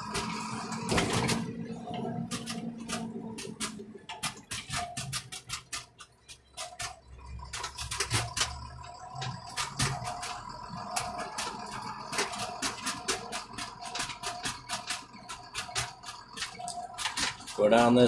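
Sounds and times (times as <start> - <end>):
tractor cab rattling and knocking: 0.0 - 18.0
tractor engine drone: 0.0 - 18.0.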